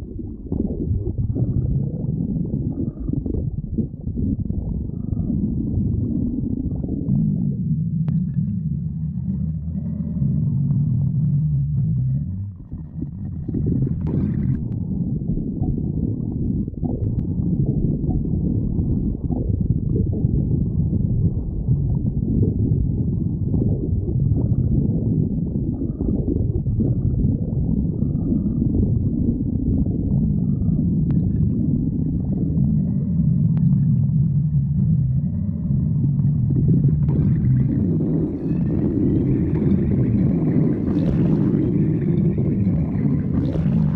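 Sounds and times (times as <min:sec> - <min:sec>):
stomach growling: 0:00.0 - 0:43.9.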